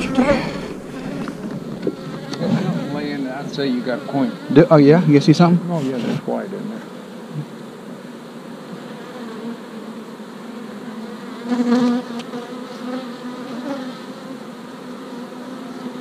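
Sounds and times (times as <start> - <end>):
bee buzzing close: 0.0 - 16.0
bees buzzing: 0.0 - 16.0.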